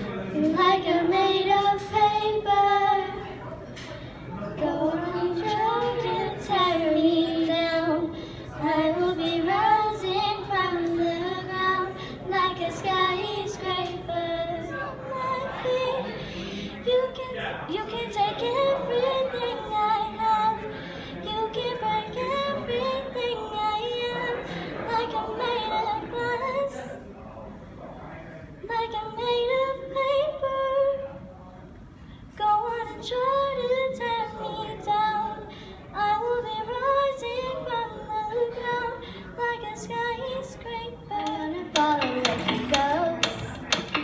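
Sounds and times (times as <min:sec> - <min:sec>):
girl singing into a microphone: 0:00.0 - 0:27.0, 0:28.6 - 0:31.2, 0:32.3 - 0:44.0.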